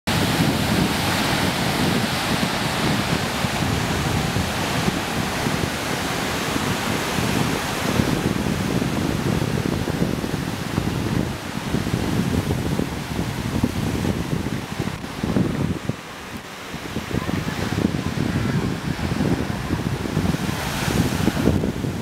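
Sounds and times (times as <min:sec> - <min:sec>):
ocean surf breaking on rocks: 0:00.1 - 0:22.0.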